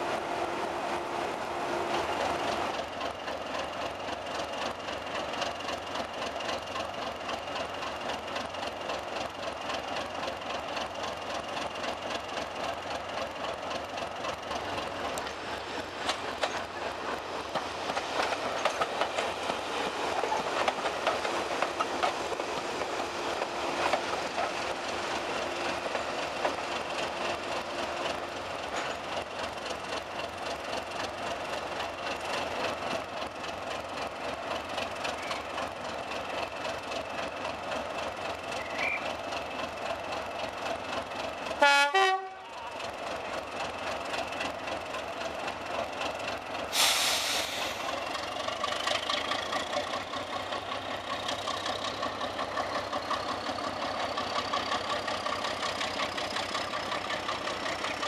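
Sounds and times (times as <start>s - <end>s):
train wheels clicking over rail joints: 1.9s - 41.6s, 42.5s - 58.0s.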